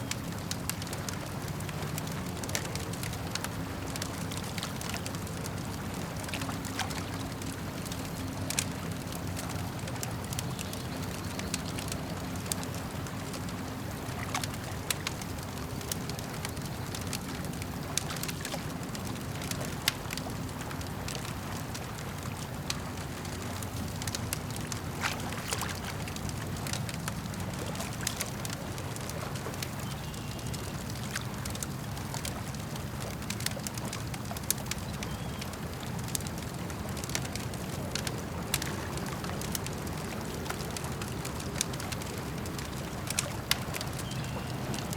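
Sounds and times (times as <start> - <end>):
campfire crackling and popping: 0.0 - 44.9
lake water lapping: 0.0 - 44.9.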